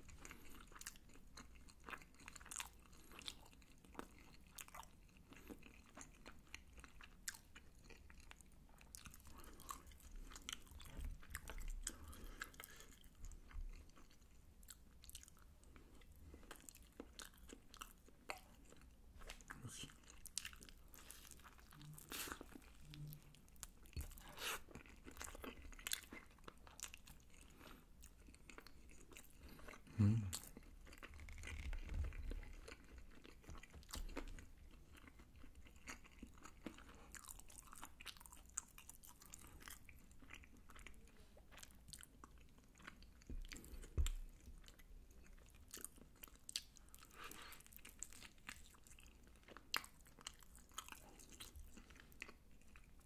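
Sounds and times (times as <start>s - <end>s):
chewing and crunching fried chicken: 0.0s - 53.0s.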